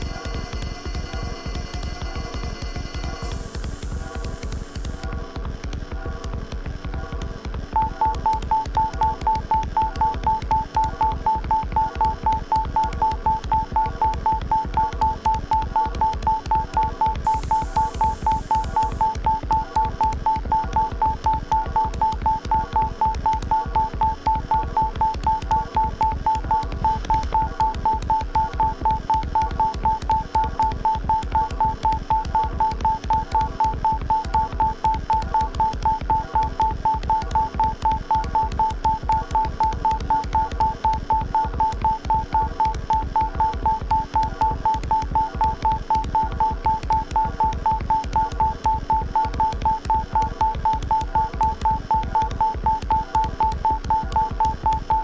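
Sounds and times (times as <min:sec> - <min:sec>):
rapid electronic beeps: 0:00.0 - 0:05.1, 0:07.2 - 0:55.0.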